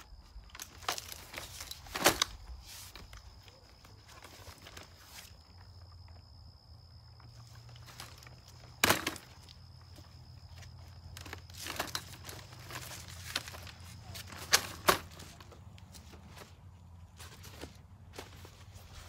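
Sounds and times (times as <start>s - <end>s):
stroller frame rattling and clicking: 0.0s - 5.2s, 7.5s - 18.9s.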